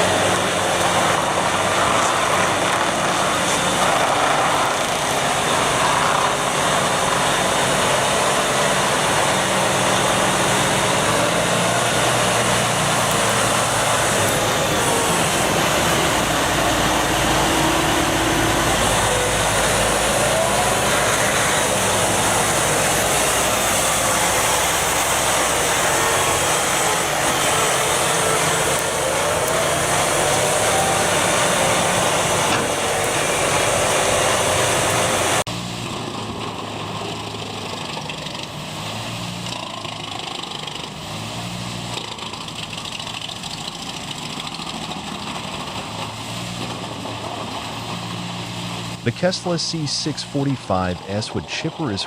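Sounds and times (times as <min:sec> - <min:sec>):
wood chipper engine running: 0:00.0 - 0:52.0.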